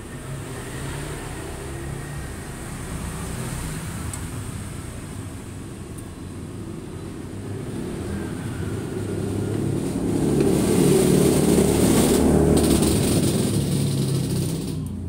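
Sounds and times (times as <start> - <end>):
vehicle driving past: 0.0 - 5.0, 6.7 - 15.0.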